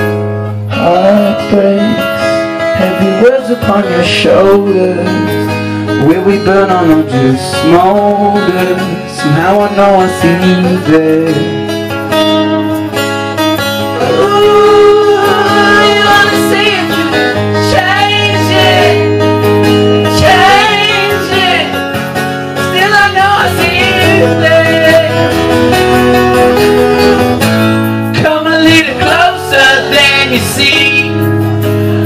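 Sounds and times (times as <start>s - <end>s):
strummed acoustic guitar: 0.0s - 32.0s
man singing: 0.7s - 11.7s, 13.9s - 21.9s, 22.6s - 26.6s, 28.1s - 31.2s.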